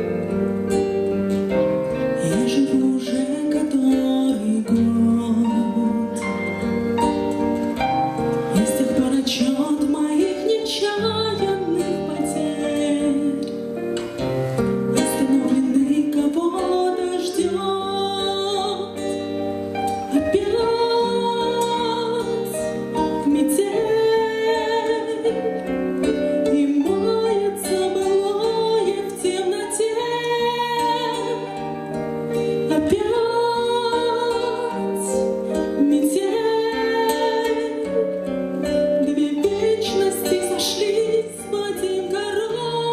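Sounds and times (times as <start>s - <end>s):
keyboard accompaniment: 0.0s - 42.9s
woman singing pop song: 2.2s - 6.8s, 8.4s - 14.1s, 15.0s - 42.9s.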